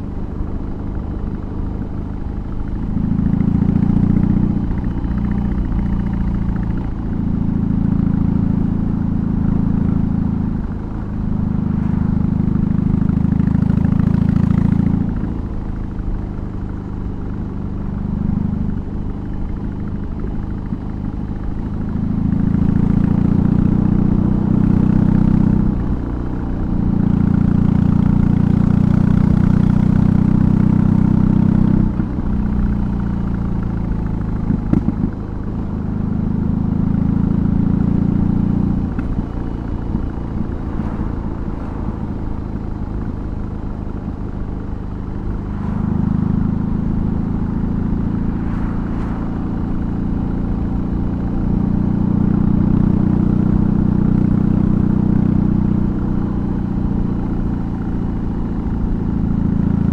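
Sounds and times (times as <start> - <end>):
motorcycle exhaust note: 0.0 - 59.9.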